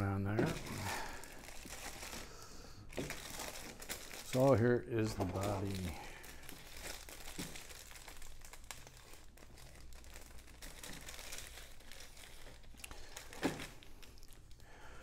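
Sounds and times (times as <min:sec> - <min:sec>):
plastic bag crinkling: 0:00.3 - 0:15.0.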